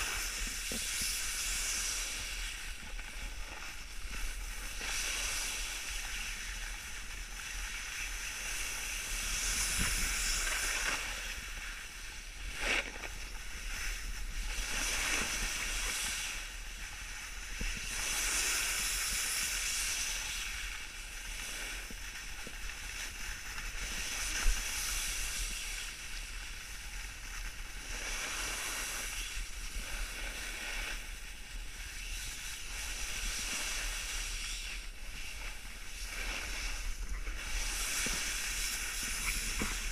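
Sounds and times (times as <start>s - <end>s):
snowboard scraping on snow: 0.0s - 39.9s.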